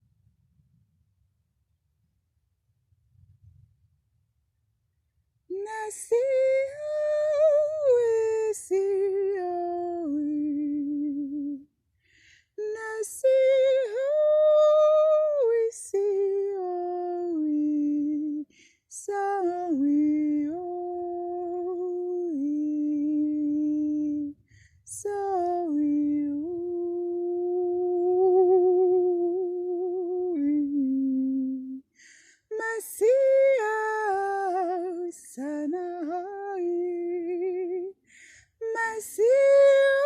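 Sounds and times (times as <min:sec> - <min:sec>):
woman singing wordless syllables: 0:05.5 - 0:11.7, 0:12.6 - 0:31.8, 0:32.5 - 0:38.0, 0:38.6 - 0:40.0.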